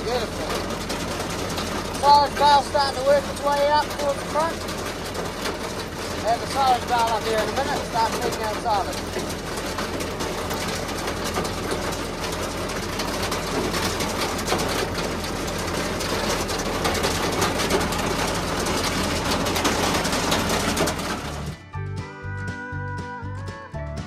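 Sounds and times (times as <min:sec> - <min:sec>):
conveyor rattling and clattering: 0:00.0 - 0:21.7
tractor engine running: 0:00.0 - 0:24.0.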